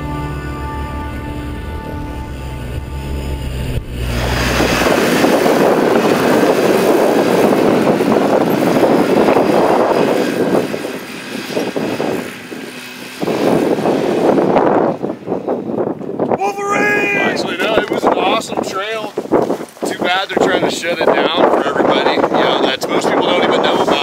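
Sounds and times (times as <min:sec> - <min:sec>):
quad engine running hard: 0:00.0 - 0:24.0.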